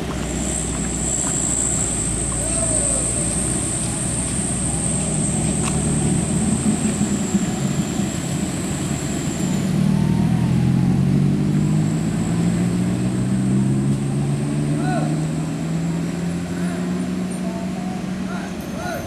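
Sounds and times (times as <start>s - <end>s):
diesel truck engine: 0.0s - 19.0s
motorcycle engines: 0.0s - 19.0s.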